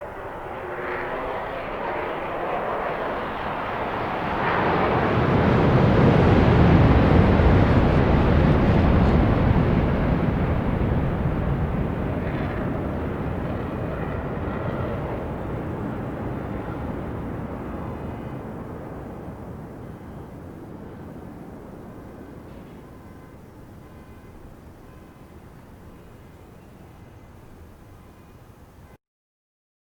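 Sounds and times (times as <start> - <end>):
jet aircraft flying past: 0.0 - 29.0.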